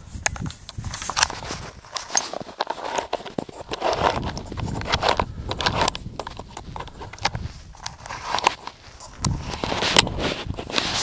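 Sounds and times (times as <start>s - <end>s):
camera handling noise: 0.1s - 11.0s.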